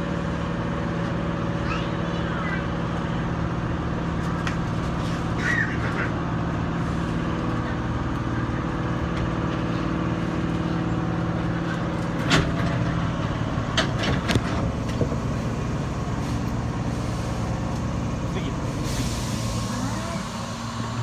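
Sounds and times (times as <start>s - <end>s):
electric train hum: 0.0s - 21.0s.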